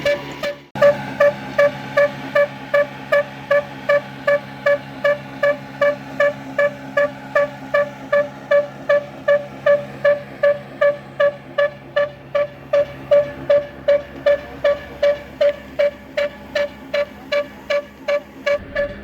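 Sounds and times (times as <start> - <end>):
stationary engine exhaust pops: 0.0 - 19.0
steady low hum: 0.3 - 19.0.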